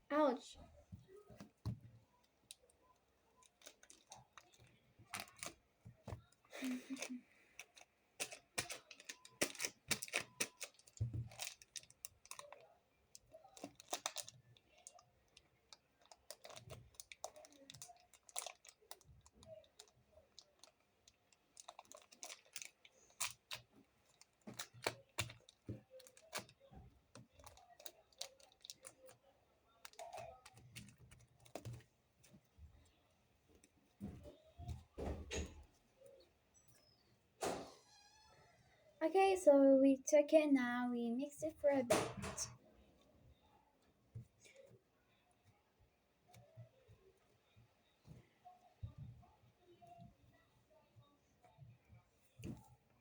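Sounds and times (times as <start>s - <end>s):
clay kneading clicks and taps: 0.8s - 36.2s, 44.0s - 53.0s.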